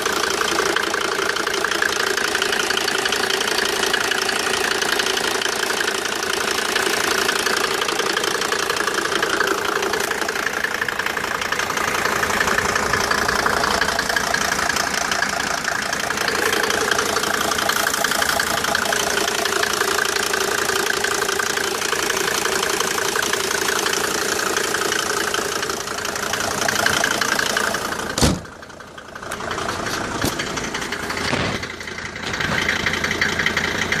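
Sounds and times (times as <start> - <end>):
diesel engine clattering: 0.0 - 34.0.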